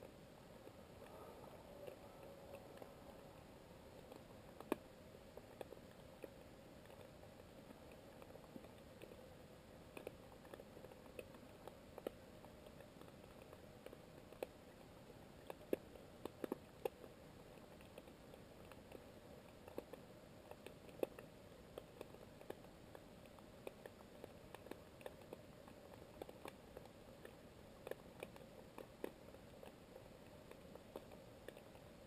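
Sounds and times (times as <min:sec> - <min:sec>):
soft underwater clicks: 0:00.0 - 0:32.0.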